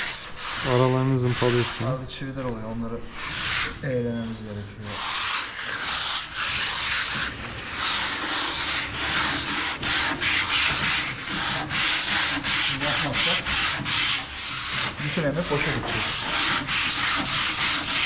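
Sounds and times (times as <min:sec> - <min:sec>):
sandpaper scratching on wood: 0:00.0 - 0:02.2, 0:03.1 - 0:18.0.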